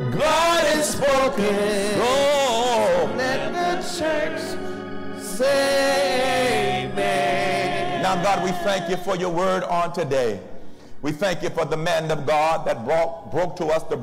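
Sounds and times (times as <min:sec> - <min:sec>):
gospel singing: 0:00.0 - 0:14.0.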